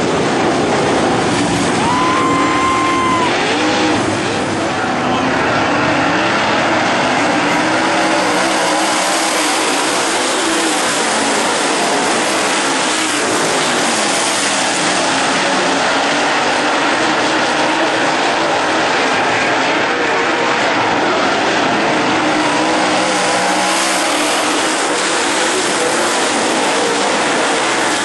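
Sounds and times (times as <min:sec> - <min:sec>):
race car engines passing: 0:00.0 - 0:28.0.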